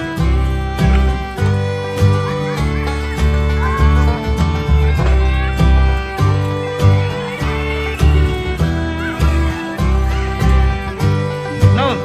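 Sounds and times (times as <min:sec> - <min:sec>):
upbeat country music: 0:00.0 - 0:12.0.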